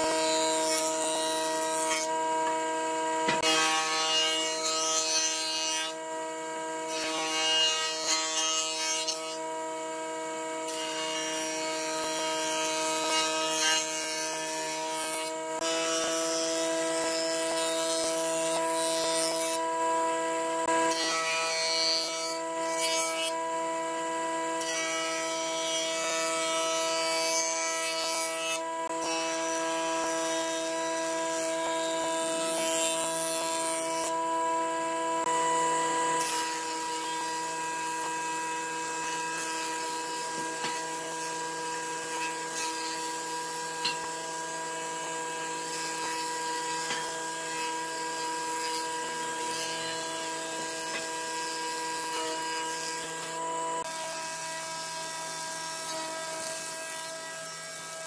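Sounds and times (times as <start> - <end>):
electric power tool whine: 0.0 - 58.0.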